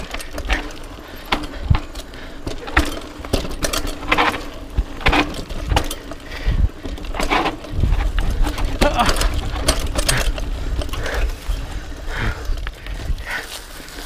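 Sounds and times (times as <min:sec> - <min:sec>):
knocks and rattles: 0:00.0 - 0:11.3.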